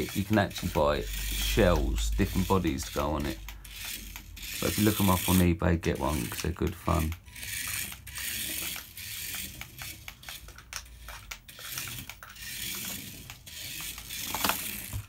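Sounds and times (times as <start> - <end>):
rapid gear clicks: 0.0 - 15.0
toy car motor whirring: 0.0 - 15.0.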